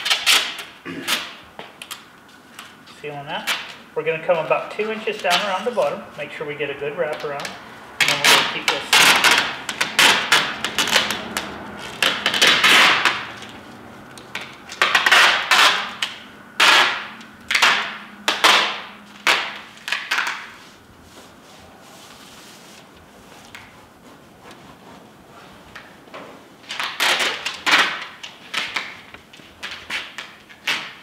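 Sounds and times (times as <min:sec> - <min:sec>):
tape peeling off a roll: 0:00.0 - 0:02.9, 0:07.1 - 0:31.0.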